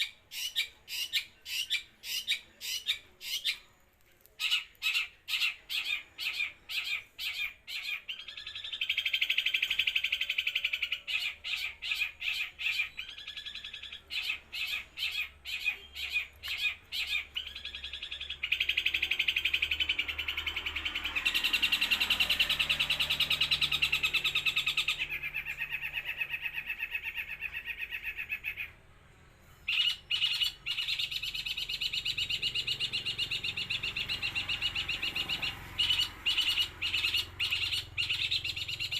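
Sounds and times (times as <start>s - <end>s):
bird singing with trills: 0.0s - 3.7s, 4.4s - 28.8s, 29.4s - 38.9s.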